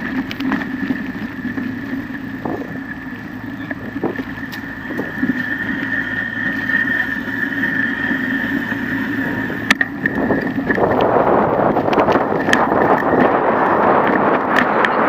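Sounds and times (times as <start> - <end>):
bicycle rolling over pavement: 0.0 - 15.0
high whine: 0.0 - 15.0.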